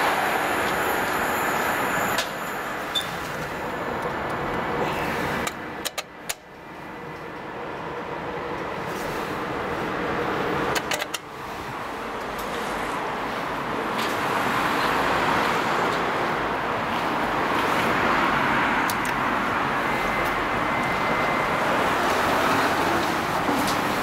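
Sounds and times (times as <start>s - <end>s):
outdoor traffic hiss and rumble: 0.0s - 24.0s.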